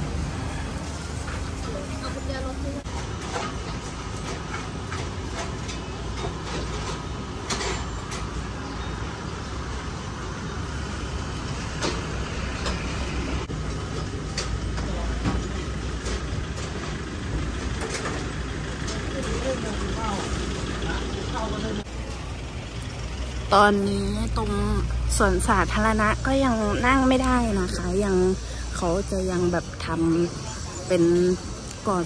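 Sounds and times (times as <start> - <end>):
vehicle engines rumbling: 0.0 - 32.0.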